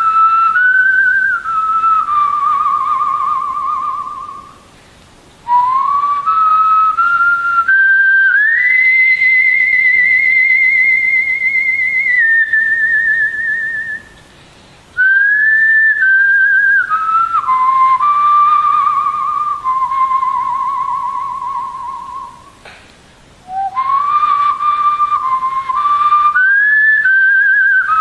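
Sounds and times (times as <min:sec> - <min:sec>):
whistle-like melody: 0:00.0 - 0:04.6, 0:05.5 - 0:14.2, 0:15.0 - 0:22.6, 0:23.4 - 0:28.0.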